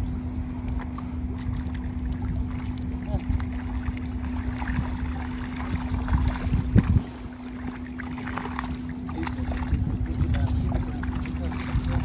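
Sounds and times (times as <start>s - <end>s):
steady low hum: 0.0s - 12.0s
wind rumbling on microphone: 0.0s - 12.0s
net splashing and dripping water: 0.6s - 12.0s.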